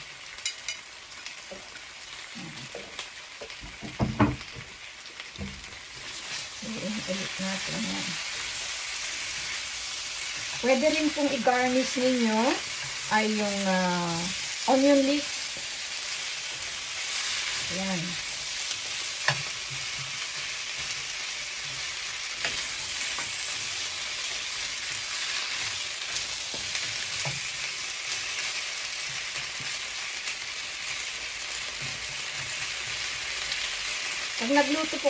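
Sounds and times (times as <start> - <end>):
wings sizzling in a wok: 0.0 - 35.0.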